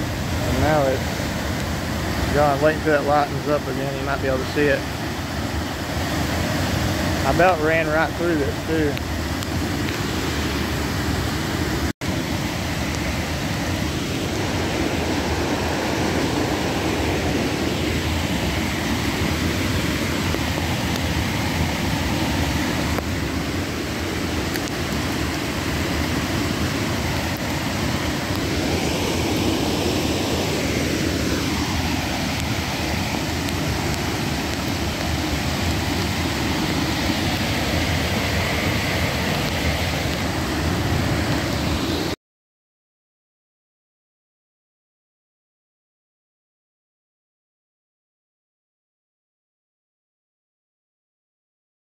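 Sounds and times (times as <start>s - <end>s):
floodwater rushing: 0.0s - 42.2s.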